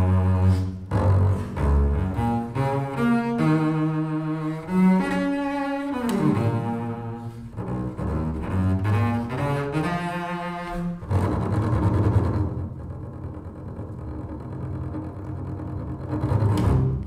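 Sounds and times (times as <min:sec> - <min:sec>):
bowed double bass: 0:00.0 - 0:17.0.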